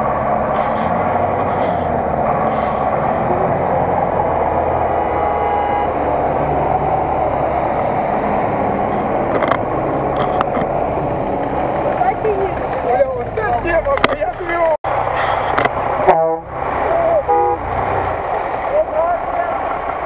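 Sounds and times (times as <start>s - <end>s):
truck engine running under load: 0.0s - 20.0s.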